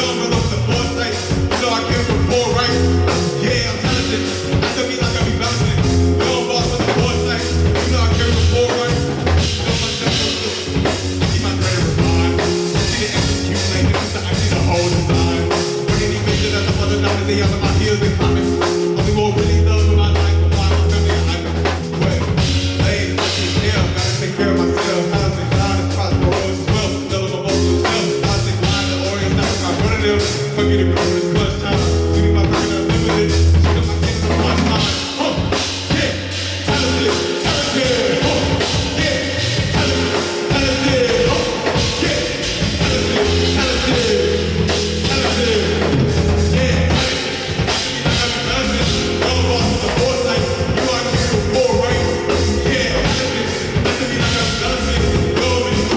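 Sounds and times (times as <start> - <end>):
drum kit beat: 0.0 - 55.9
heavy bass line: 0.0 - 55.9
rock band playing: 0.0 - 55.9.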